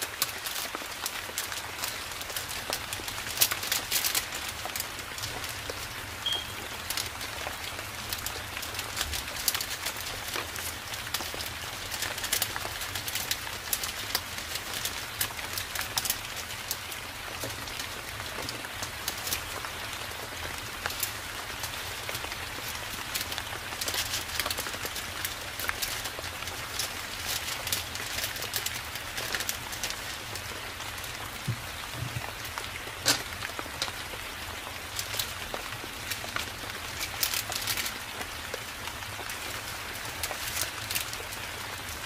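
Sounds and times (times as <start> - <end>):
steady rain: 0.0 - 42.0
raindrop ticks: 0.1 - 42.0.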